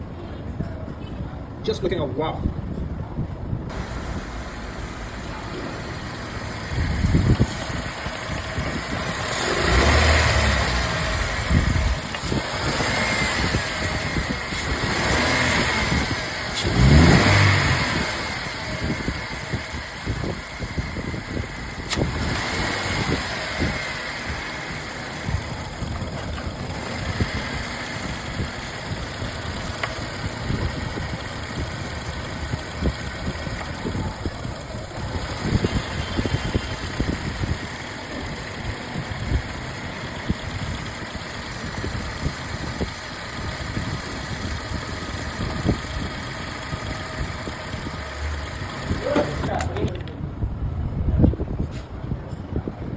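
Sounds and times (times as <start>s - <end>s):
car engine idling and revving: 3.7s - 50.2s.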